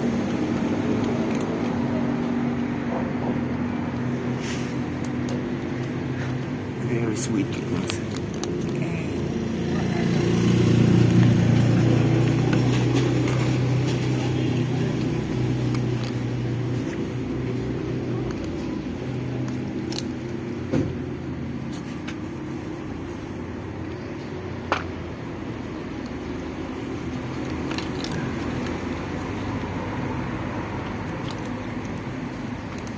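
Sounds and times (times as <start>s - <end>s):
vehicle engine humming: 0.0s - 32.9s.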